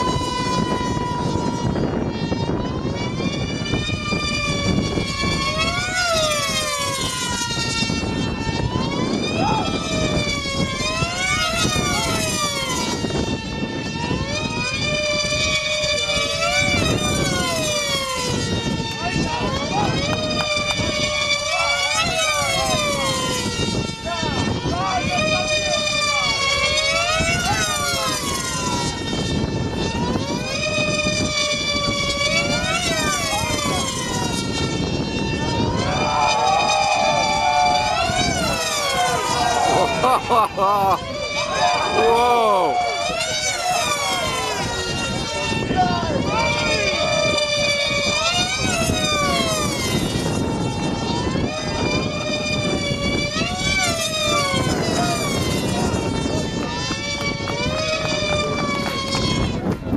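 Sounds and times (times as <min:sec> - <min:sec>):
model airplane engines screaming: 0:00.0 - 0:59.9.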